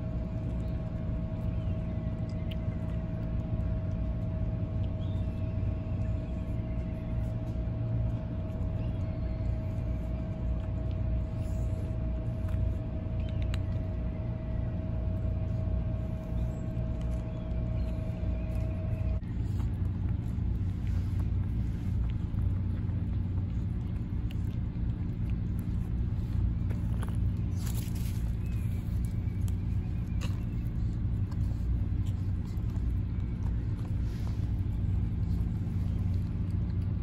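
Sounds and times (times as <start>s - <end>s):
cats crunching dry kibble: 0.0s - 37.0s
faint steady hum: 0.0s - 37.0s
low steady rumble: 0.0s - 37.0s.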